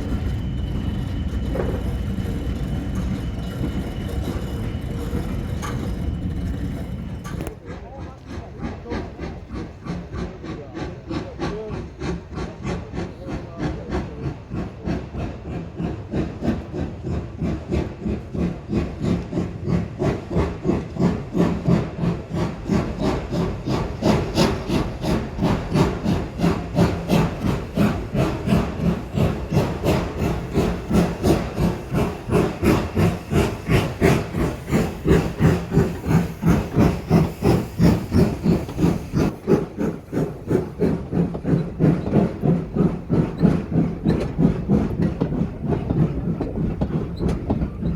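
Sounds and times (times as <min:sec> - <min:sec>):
steam locomotive exhaust beats: 0:00.0 - 0:47.9.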